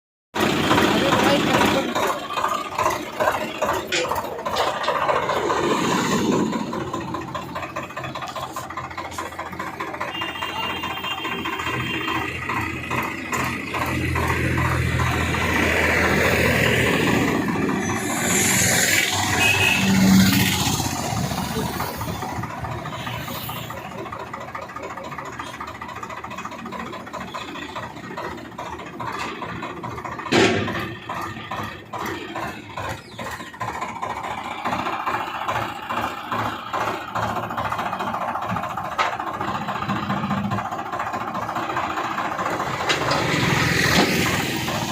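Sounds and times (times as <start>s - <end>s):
tractor engine running: 0.3s - 44.9s.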